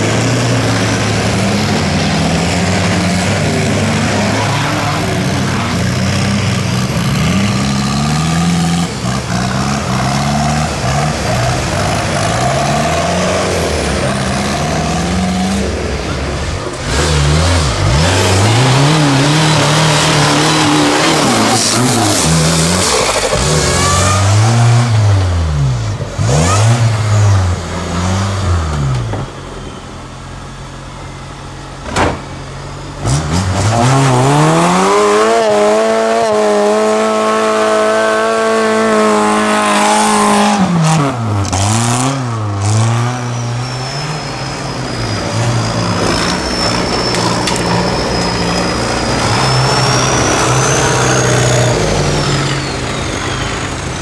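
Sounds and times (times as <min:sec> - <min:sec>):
race vehicle engine revving: 0:00.0 - 0:29.9, 0:30.5 - 0:54.0.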